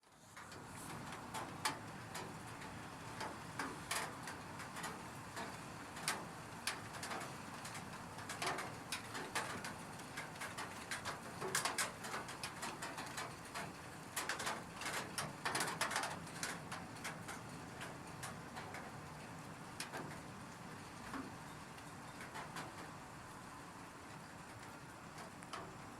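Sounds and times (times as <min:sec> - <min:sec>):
rain hiss: 0:00.1 - 0:25.9
raindrops tapping on a roof: 0:00.2 - 0:25.9.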